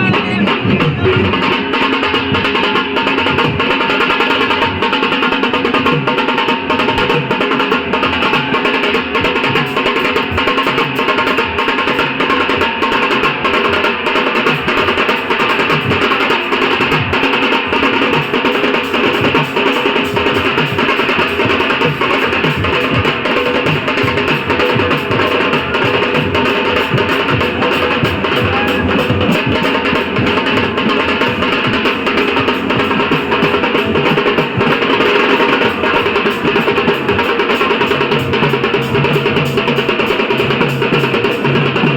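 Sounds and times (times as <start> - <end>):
barrel drums and snare drums: 0.0 - 41.9.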